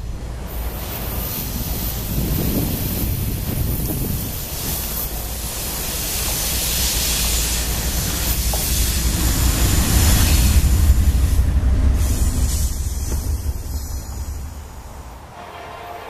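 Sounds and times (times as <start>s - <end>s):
diesel locomotives passing: 0.0s - 16.0s
freight cars rolling on rails: 0.0s - 16.0s.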